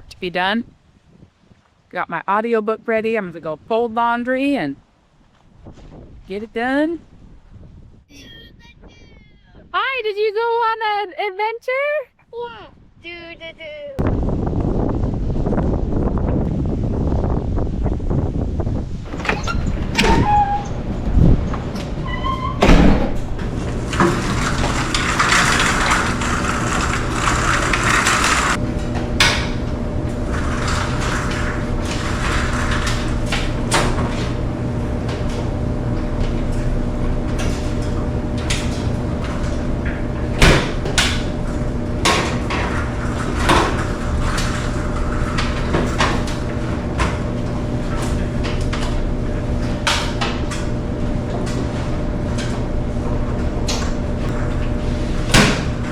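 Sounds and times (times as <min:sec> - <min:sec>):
clothes dryers humming: 0:02.0 - 0:04.8, 0:06.3 - 0:07.0, 0:14.2 - 0:55.9.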